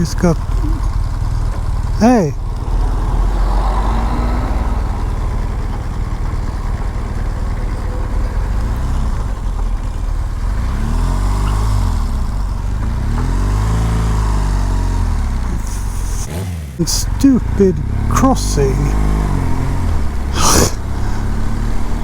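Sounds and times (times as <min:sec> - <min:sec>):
motorcycle engine rumble: 0:00.0 - 0:22.0
road and wind noise: 0:00.0 - 0:22.0.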